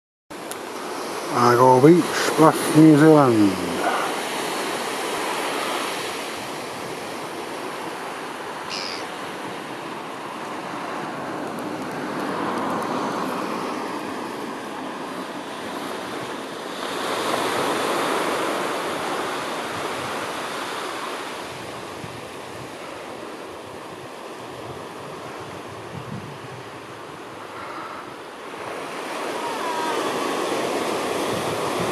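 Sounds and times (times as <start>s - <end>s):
wind: 0.3s - 31.9s
surf: 0.4s - 31.9s.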